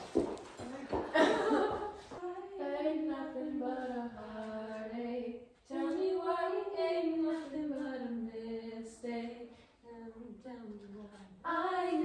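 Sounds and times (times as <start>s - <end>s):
girl singing unaccompanied: 2.2s - 12.0s.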